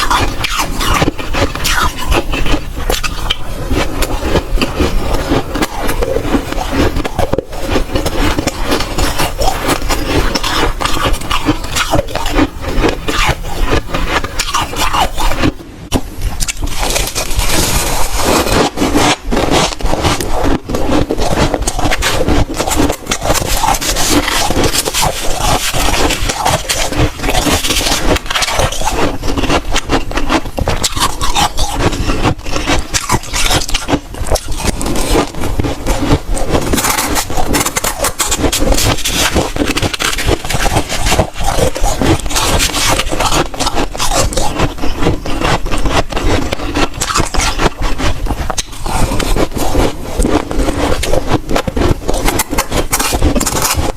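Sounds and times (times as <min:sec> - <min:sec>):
crunching of freezer frost: 0:00.0 - 0:53.9.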